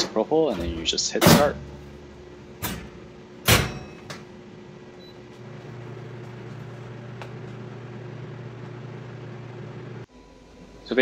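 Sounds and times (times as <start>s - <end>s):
machine low hum: 0.0s - 11.0s.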